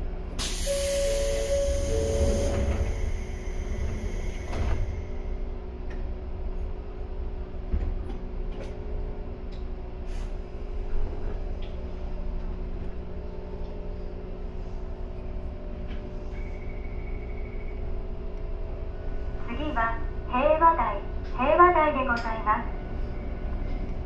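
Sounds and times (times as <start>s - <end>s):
electric train rumble: 0.0s - 24.0s
train motor hum: 0.2s - 24.0s.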